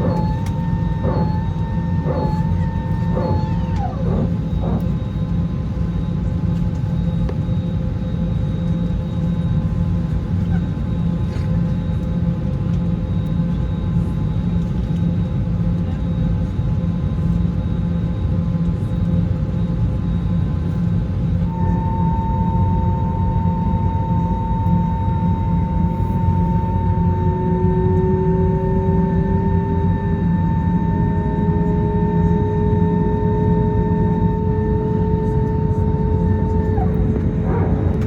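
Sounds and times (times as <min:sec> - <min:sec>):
airplane cabin rumble: 0:00.0 - 0:38.0
faint steady whine: 0:00.0 - 0:38.0.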